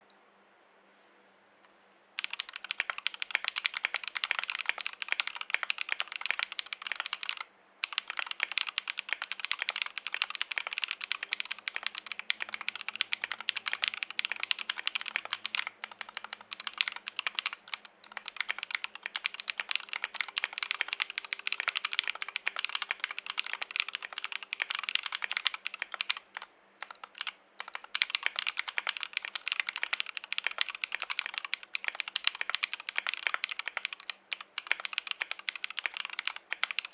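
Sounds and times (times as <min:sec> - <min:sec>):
mechanical keyboard typing: 0:02.2 - 0:36.9.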